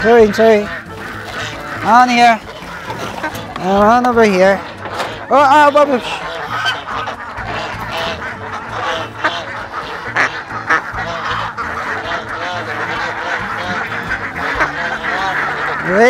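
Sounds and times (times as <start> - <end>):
ducks quacking: 0.0 - 16.0
geese honking: 0.0 - 16.0.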